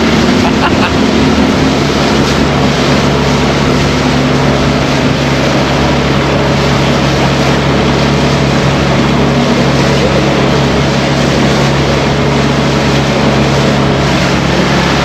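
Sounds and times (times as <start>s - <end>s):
motorboat engine running: 0.0s - 15.0s
rush of water and air: 0.0s - 15.0s.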